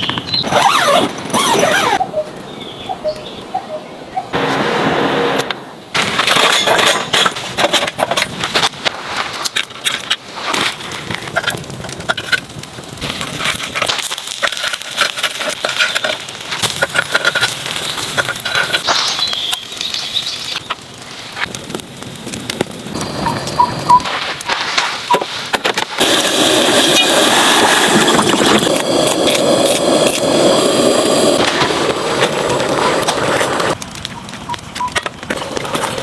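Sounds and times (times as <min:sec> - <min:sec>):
charcoal fire crackling: 0:00.0 - 0:03.6, 0:04.3 - 0:36.0.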